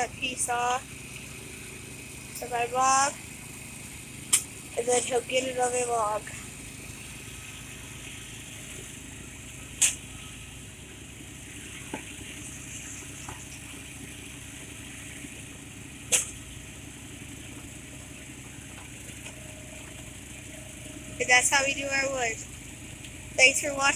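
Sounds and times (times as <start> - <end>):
engine running: 0.0 - 23.9.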